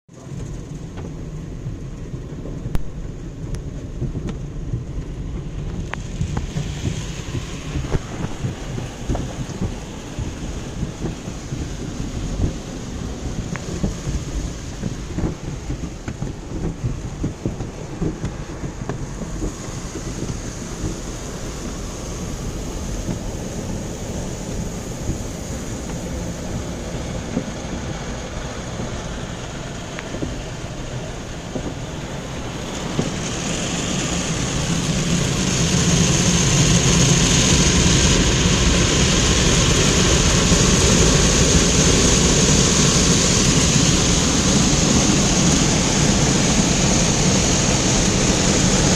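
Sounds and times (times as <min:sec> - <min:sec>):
car wash machinery drumming: 0:00.2 - 0:48.9
steady rushing sound: 0:00.3 - 0:48.9
water spray: 0:06.0 - 0:48.9.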